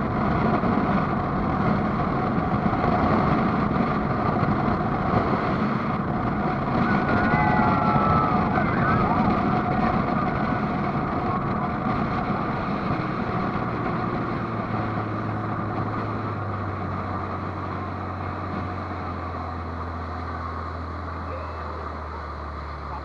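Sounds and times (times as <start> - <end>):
rush of wind and water: 0.0 - 23.0
speedboat engine: 0.0 - 23.0.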